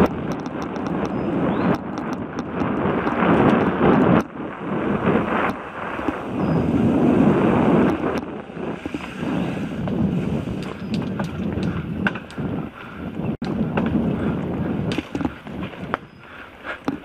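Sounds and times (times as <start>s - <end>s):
bike clicks and rattles: 0.0s - 4.4s, 5.1s - 17.0s
wind buffeting microphone: 0.0s - 17.0s.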